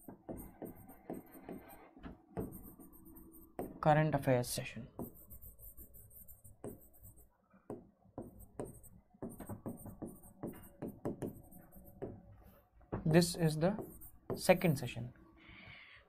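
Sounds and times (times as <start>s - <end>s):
stylus tapping and scratching screen: 0.0s - 3.9s, 4.9s - 14.8s.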